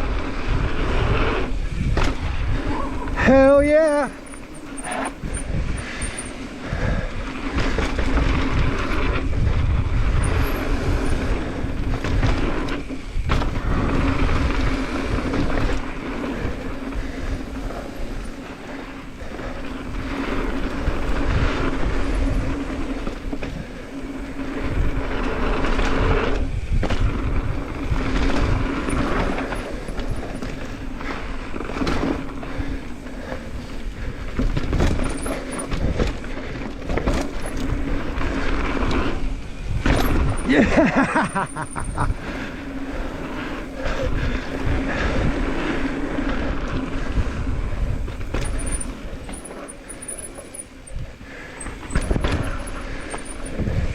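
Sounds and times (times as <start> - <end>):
rattling and rumbling from ground: 0.0 - 53.9
wind buffeting microphone: 0.0 - 53.9.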